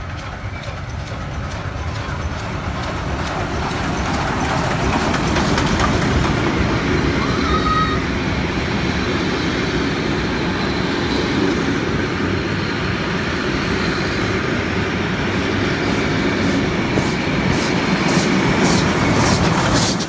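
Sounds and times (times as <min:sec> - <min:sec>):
steam locomotive beats: 0:00.0 - 0:20.0
train wheels rumbling on rails: 0:00.0 - 0:20.0.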